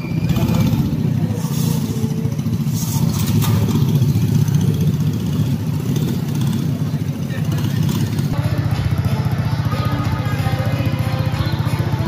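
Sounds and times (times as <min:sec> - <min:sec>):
go-kart engines droning: 0:00.0 - 0:12.0.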